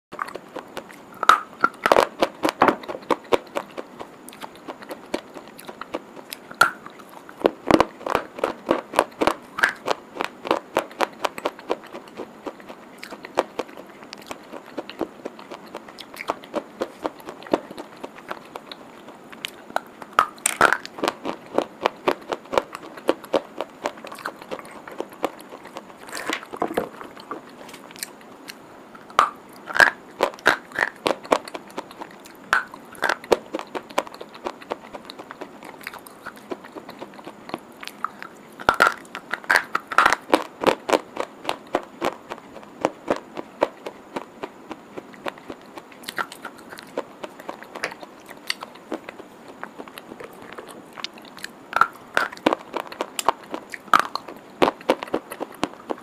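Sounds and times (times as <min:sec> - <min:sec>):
teeth crunching slate pencils: 0:00.1 - 0:56.0.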